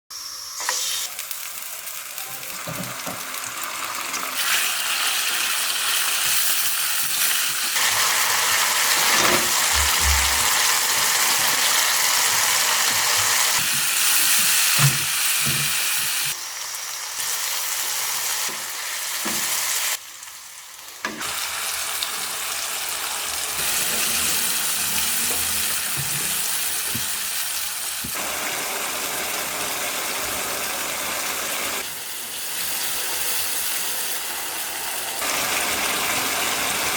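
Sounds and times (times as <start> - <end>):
chicken sizzling in a hot pan: 0.2 - 36.9.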